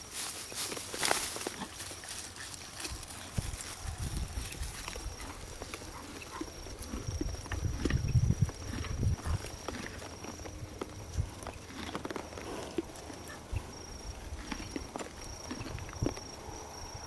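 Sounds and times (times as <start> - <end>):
horse hoofbeats on grass: 0.0 - 16.5.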